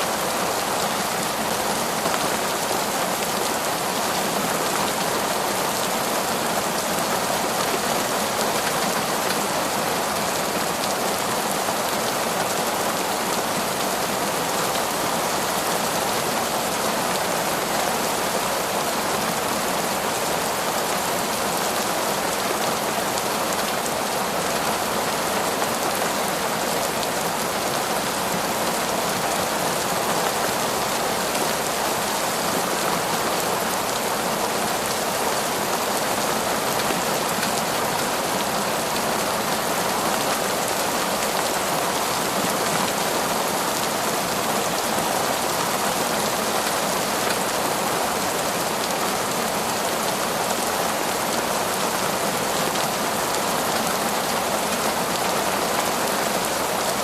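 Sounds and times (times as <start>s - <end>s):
heavy rain through trees: 0.0s - 57.0s.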